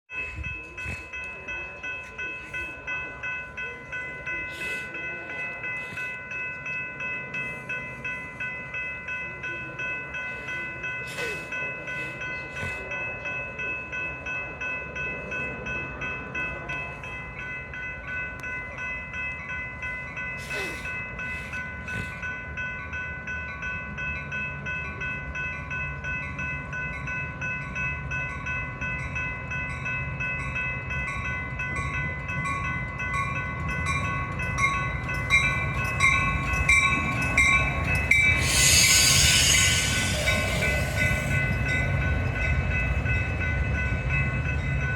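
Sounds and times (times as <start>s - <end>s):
railroad crossing bell ringing: 0.1s - 44.9s.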